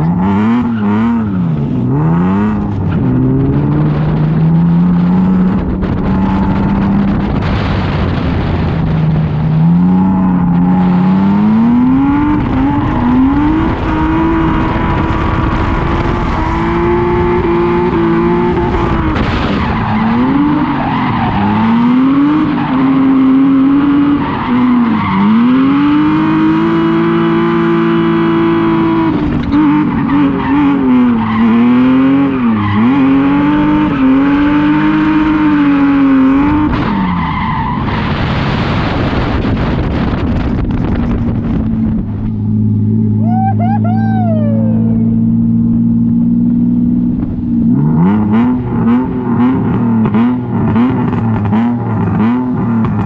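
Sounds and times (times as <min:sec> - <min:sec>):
car engine revving hard: 0:00.0 - 0:43.2, 0:44.6 - 0:53.0.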